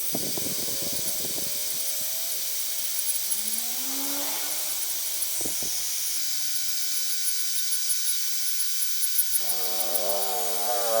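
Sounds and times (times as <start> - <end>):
high-speed power tool hissing: 0.0 - 11.0.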